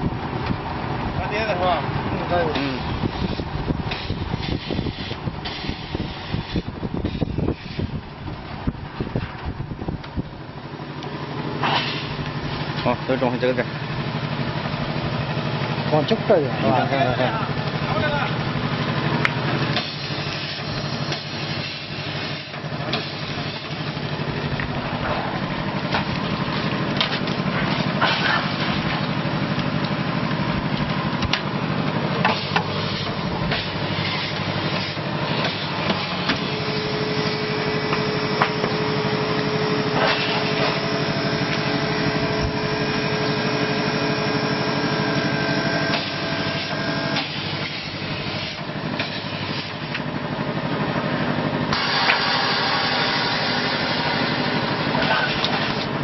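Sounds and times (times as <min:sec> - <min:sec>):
machinery motor hum: 0:00.0 - 0:56.0
steady machine whine: 0:00.0 - 0:56.0.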